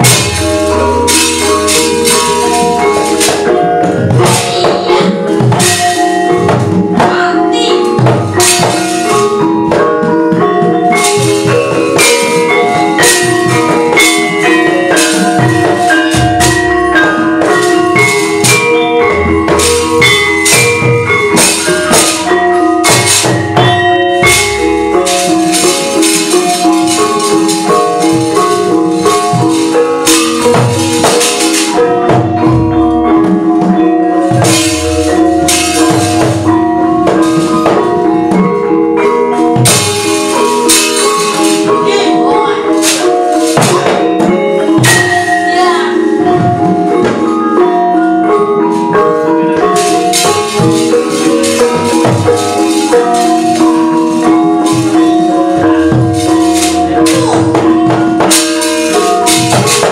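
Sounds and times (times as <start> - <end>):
metal plates clattering: 0.0 - 32.4, 33.2 - 47.3, 48.6 - 59.9
hand drum strokes: 0.0 - 59.9
metallophones playing repeating notes: 0.0 - 59.9.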